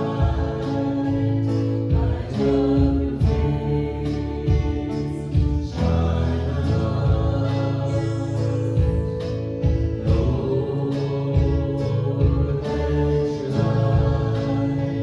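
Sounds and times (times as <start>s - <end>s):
guitar: 0.0s - 15.0s
person singing: 0.0s - 15.0s
steady beat: 0.0s - 15.0s
worship band music: 0.0s - 15.0s.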